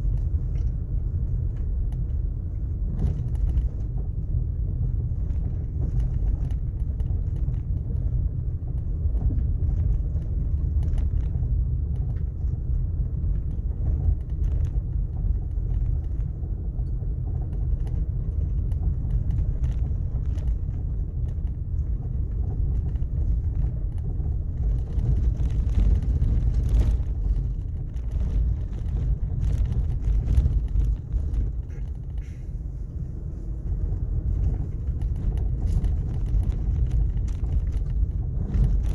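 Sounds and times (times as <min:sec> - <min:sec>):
small ticks and rattles: 0:00.0 - 0:32.4, 0:34.2 - 0:38.9
car tyres and engine rumble: 0:00.0 - 0:38.9.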